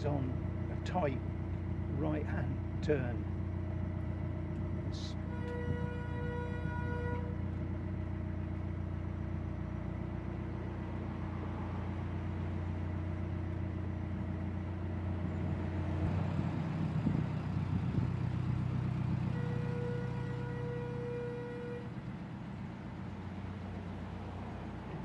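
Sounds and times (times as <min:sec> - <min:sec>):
boat diesel engine running: 0:00.0 - 0:25.0.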